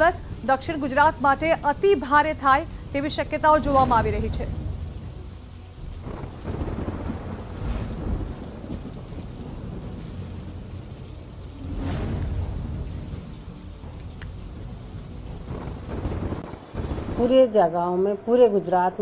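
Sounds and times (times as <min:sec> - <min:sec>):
rolling thunder: 0:00.0 - 0:17.6
rain: 0:00.0 - 0:17.7.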